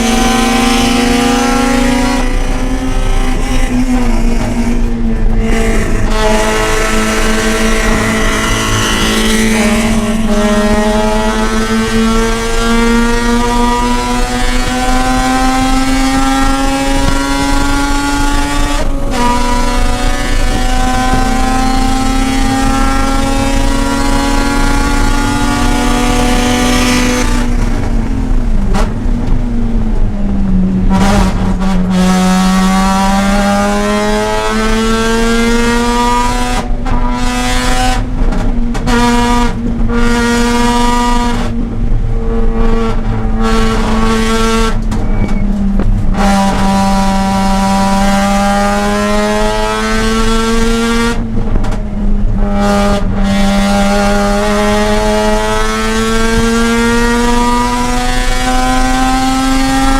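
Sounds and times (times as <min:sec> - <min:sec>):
rotary engine at racing revs: 0:00.0 - 0:59.9.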